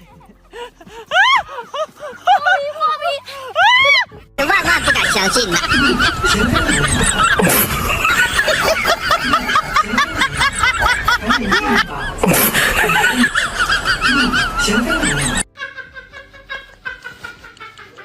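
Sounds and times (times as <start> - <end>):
high giggling laughter: 0.0 - 18.0.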